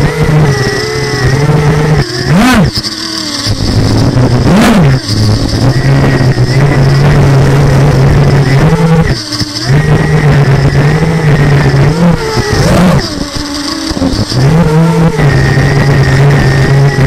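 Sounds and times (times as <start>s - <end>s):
quadcopter propellers buzzing: 0.0s - 17.0s.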